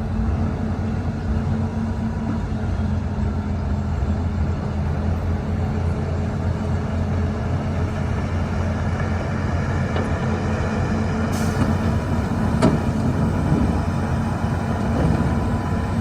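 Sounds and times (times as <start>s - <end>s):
diesel machinery engine drone: 0.0s - 16.0s.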